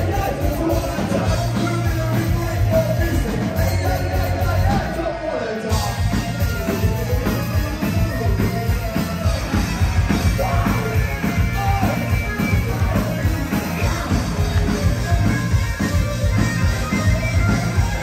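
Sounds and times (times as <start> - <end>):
drum kit beating: 0.0 - 5.0, 5.7 - 18.0
rock band playing: 0.0 - 18.0.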